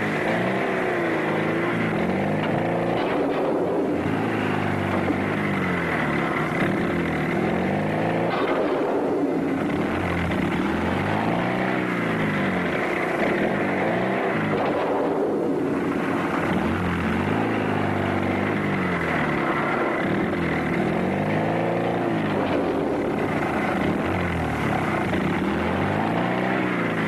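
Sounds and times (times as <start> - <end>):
car engine revving: 0.0 - 27.0
steady rushing noise: 0.0 - 27.0.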